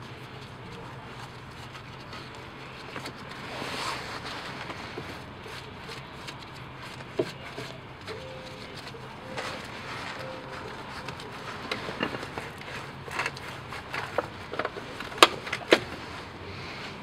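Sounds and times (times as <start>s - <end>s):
screwdriver scraping grime: 0.2s - 14.7s.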